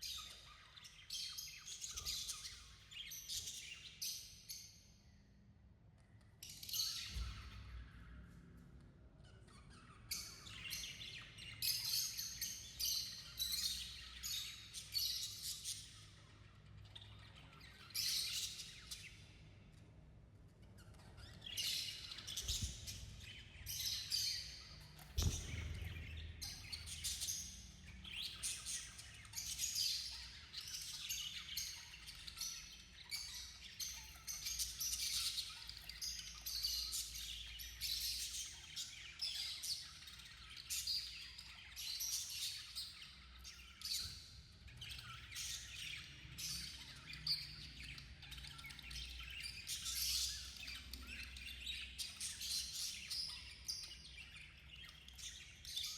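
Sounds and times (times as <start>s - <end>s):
budgies chirping and warbling: 0.0s - 4.9s, 5.9s - 55.9s.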